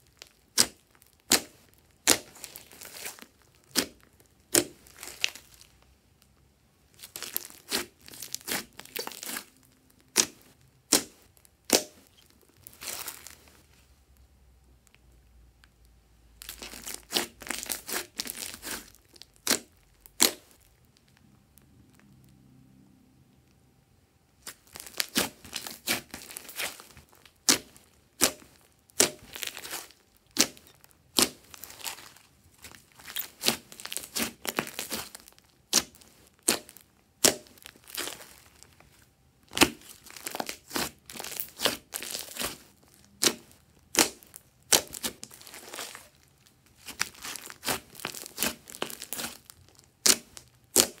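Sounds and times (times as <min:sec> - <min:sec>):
hands squishing slime: 0:00.0 - 0:05.9, 0:07.0 - 0:13.7, 0:16.4 - 0:20.8, 0:24.4 - 0:51.0.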